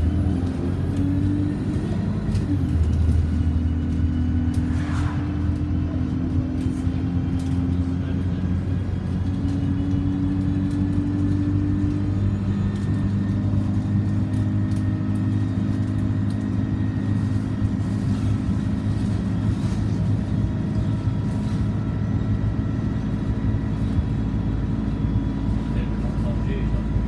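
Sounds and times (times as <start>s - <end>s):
bus engine drone: 0.0s - 27.0s
road noise: 0.0s - 27.0s.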